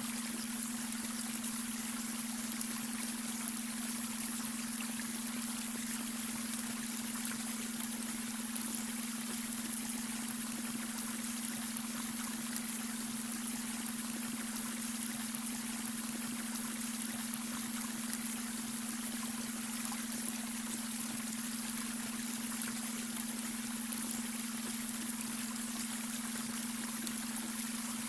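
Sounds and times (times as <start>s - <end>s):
stream trickling and splashing: 0.0s - 28.0s.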